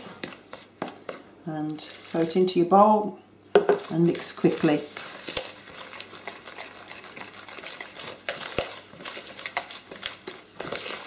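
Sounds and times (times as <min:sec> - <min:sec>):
spoon stirring dough in bowl: 0:00.0 - 0:03.0, 0:03.6 - 0:11.0.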